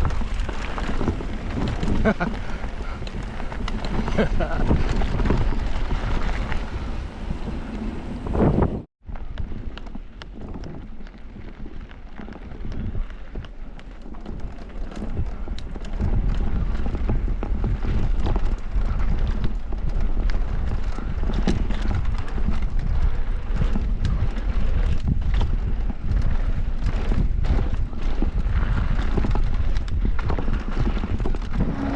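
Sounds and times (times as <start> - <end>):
mountain bike clattering over rocks: 0.0 - 6.8, 9.4 - 31.6
wind on microphone: 0.0 - 31.9.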